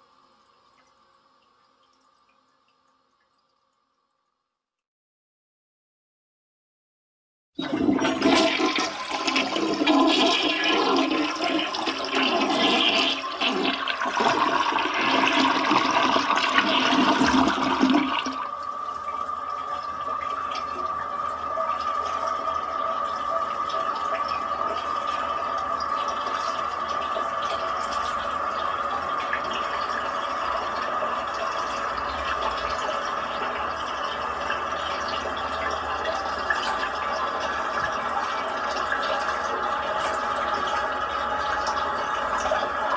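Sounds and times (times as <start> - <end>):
toilet flushing: 7.6 - 42.9.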